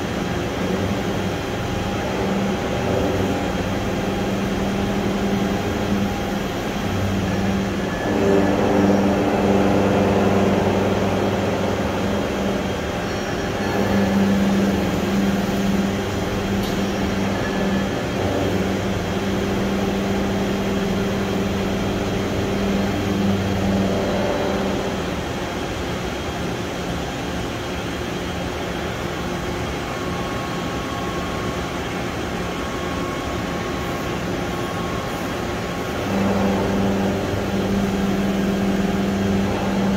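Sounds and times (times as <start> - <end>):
boring mill mechanical hum: 0.0 - 39.9.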